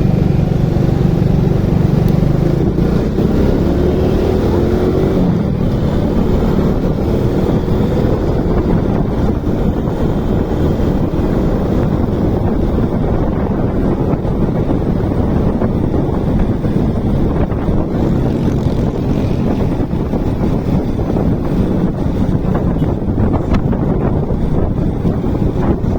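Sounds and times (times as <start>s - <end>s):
motorcycle running: 0.0s - 25.9s
road noise: 0.0s - 25.9s
wind rushing over microphone: 0.0s - 25.9s.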